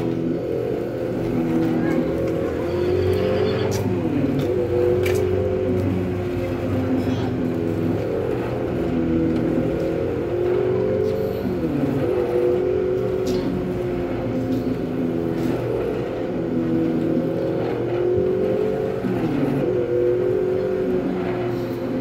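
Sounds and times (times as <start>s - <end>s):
recorded motorcycle engine revving: 0.0s - 22.0s.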